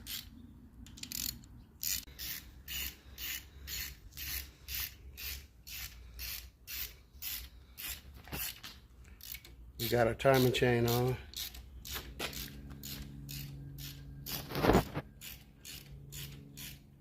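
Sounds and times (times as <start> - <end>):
ratchet wrench clicking: 0.0 - 9.6, 10.2 - 14.4, 15.2 - 16.9.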